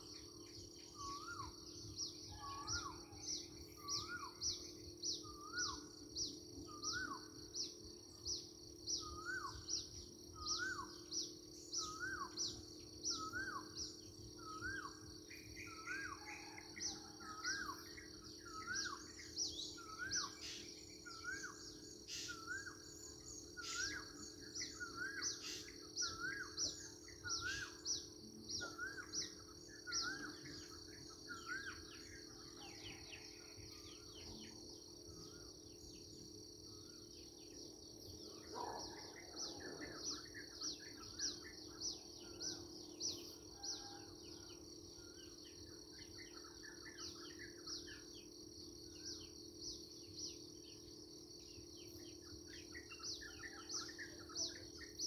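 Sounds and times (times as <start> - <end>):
songbirds chirping: 0.0 - 55.0
steady high-pitched hum: 0.0 - 55.0.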